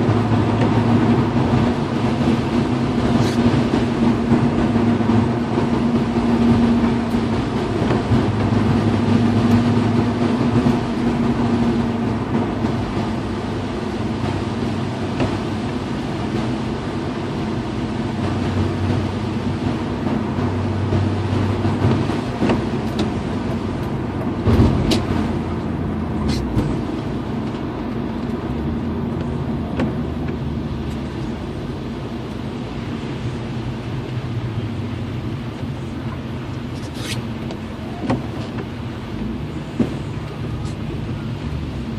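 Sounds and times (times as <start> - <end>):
car engine drone: 0.0 - 41.9
tyres hissing on wet road: 0.0 - 41.9.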